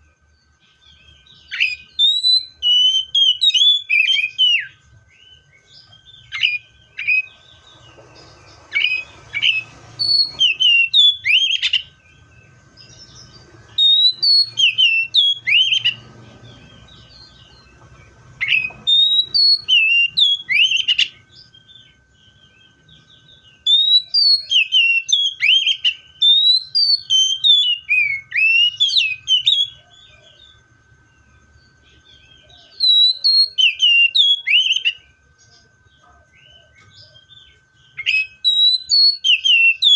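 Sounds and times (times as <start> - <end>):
bird singing whistled phrases: 0.7 - 17.8, 18.4 - 30.6, 32.0 - 35.2, 36.4 - 39.9.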